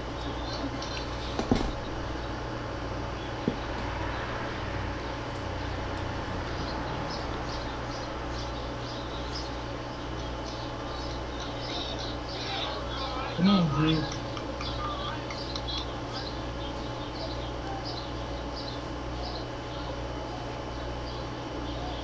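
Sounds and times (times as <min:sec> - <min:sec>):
hall background hum: 0:00.0 - 0:22.0.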